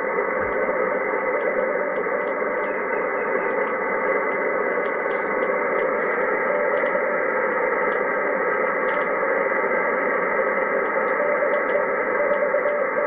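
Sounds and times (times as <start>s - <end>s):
radio static hiss: 0.0s - 13.0s
weak morse code signals: 0.0s - 13.0s.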